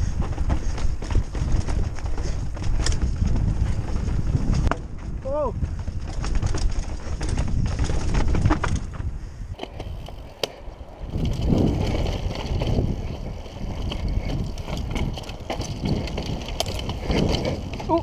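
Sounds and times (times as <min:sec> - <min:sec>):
bike rattling: 0:00.0 - 0:18.0
wind rumble on microphone: 0:00.0 - 0:18.0
tyres crunching over dirt and stones: 0:00.1 - 0:18.0.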